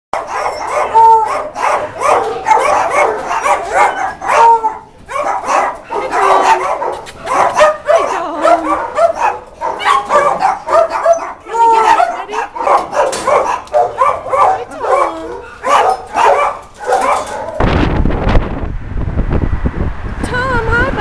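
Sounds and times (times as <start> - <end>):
dogs barking and yipping: 0.2 - 17.6.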